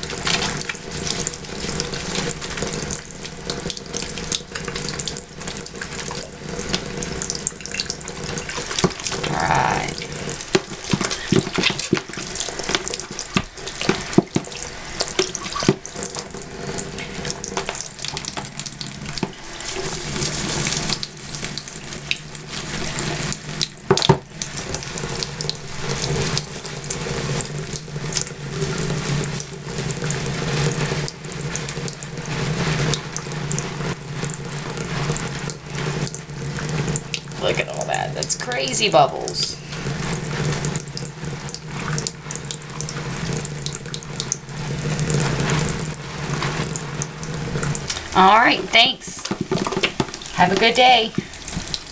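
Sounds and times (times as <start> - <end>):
soap lathering with wet squelches: 0.0 - 51.9
tap water running into sink: 0.0 - 51.9.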